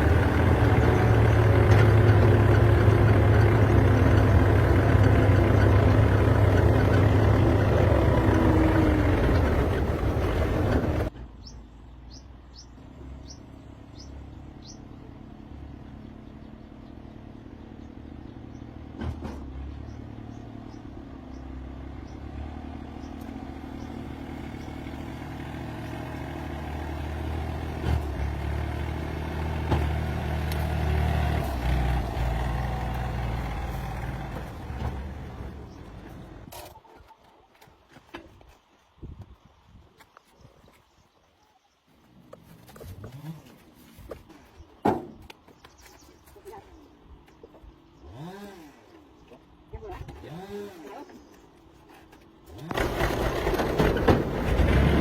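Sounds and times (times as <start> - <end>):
vehicle engine rumbling: 0.0 - 41.1, 41.8 - 55.0
birds chirping: 0.1 - 28.4, 30.9 - 37.5, 38.5 - 52.4.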